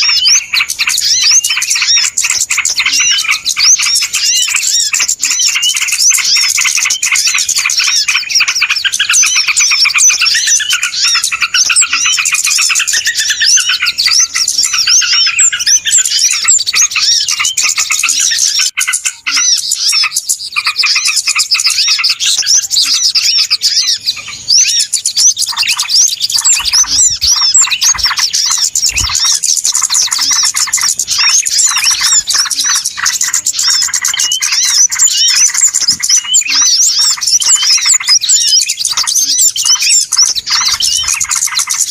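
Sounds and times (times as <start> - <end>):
flock of small birds chirping: 0.0 - 41.9.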